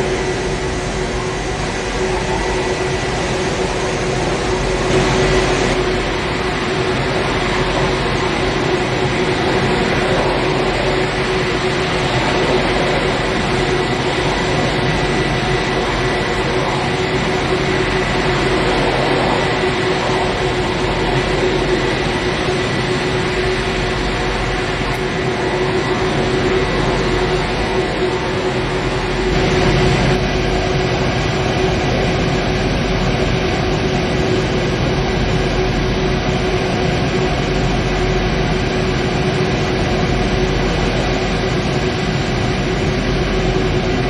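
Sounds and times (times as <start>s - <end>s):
high jet whine: 0.0s - 44.0s
jet engines idling: 0.0s - 44.0s.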